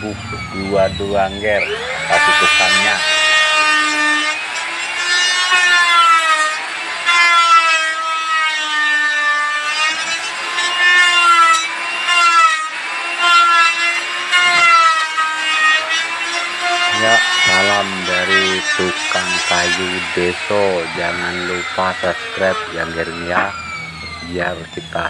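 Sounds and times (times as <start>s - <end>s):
power tool motor whine under load: 0.0s - 25.0s.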